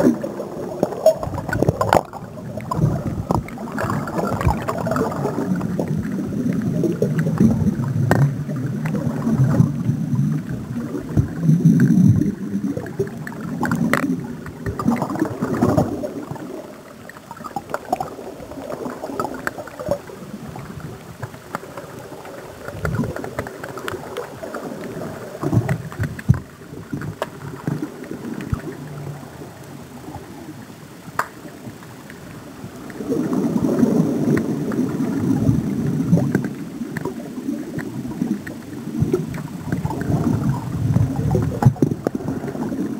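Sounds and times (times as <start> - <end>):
underwater rumble and gurgle: 0.0 - 42.9.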